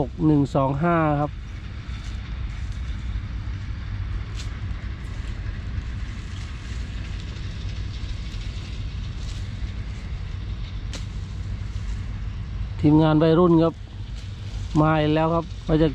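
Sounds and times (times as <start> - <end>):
heavy diesel machinery rumbling: 0.0 - 15.9.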